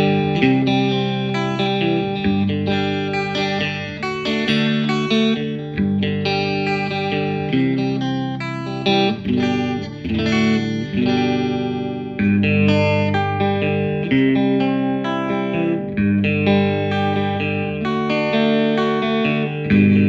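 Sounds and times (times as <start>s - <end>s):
electric guitar strumming chords: 0.0s - 20.0s.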